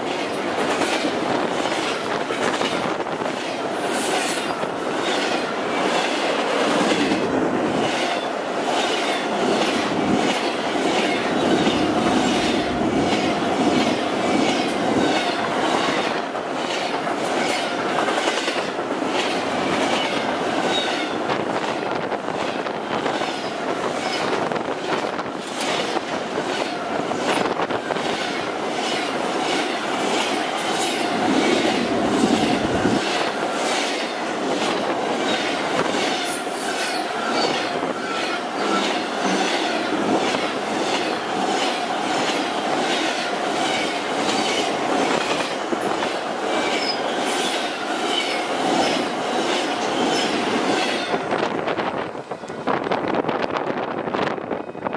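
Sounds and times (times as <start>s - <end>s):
wheels clickety-clack: 0.0s - 51.5s
steel wheels rumbling on rail: 0.0s - 54.9s.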